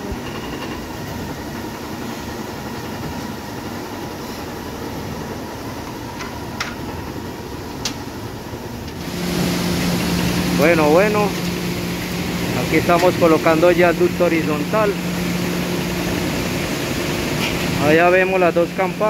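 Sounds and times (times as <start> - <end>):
industrial machinery rumbling: 0.0 - 19.0
loud steady hum: 0.0 - 19.0.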